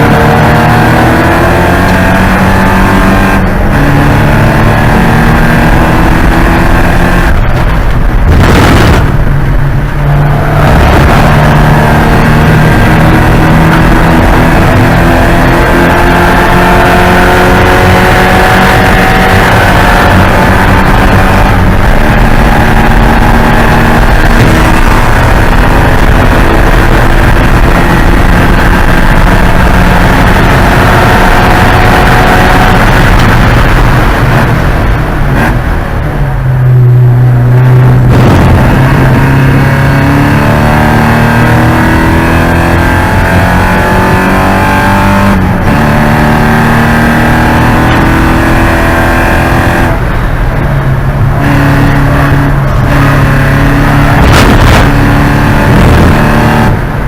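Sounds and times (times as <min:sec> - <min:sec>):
race car engine at hard throttle: 0:00.0 - 0:57.0.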